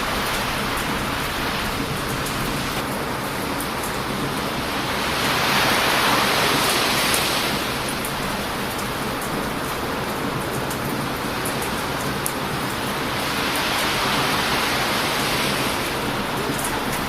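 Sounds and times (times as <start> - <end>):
ocean surf crashing: 0.0 - 17.0.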